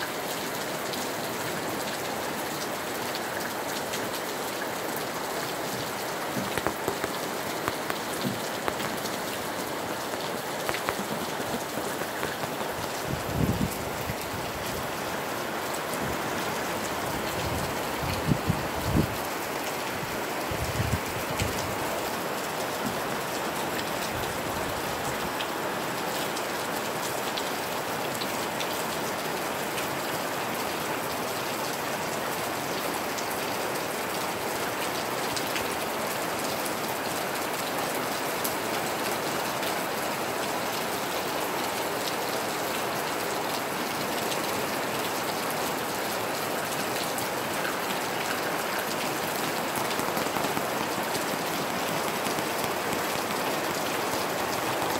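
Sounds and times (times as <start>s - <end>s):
steady rain hiss: 0.0s - 54.9s
raindrops ticking close by: 0.1s - 54.9s.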